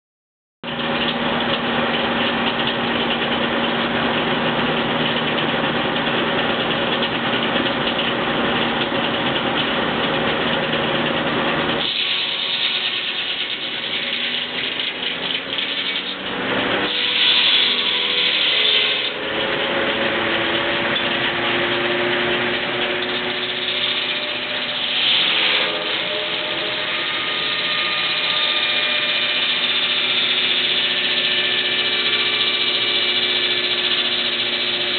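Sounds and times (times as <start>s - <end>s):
circular saw cutting wood: 0.6s - 34.9s.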